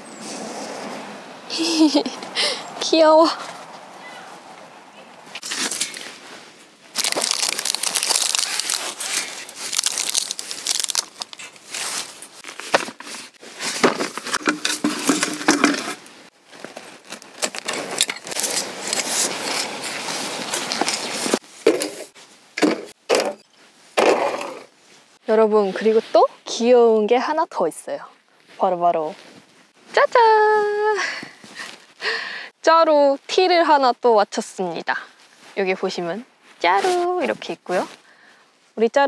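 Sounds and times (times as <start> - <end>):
camping gear rustling and crinkling: 0.1 - 32.6, 33.3 - 38.9.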